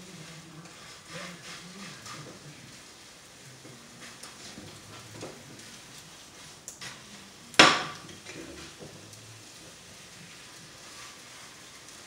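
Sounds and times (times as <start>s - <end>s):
omelette sizzling in a pan: 0.0s - 12.0s
utensil scraping a pan: 0.0s - 12.0s.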